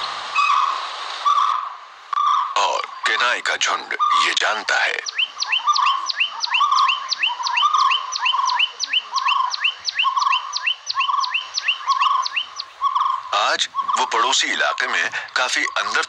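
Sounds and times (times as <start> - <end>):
high falling bird notes: 0.3 - 14.8
lower bird warbling: 0.3 - 16.0.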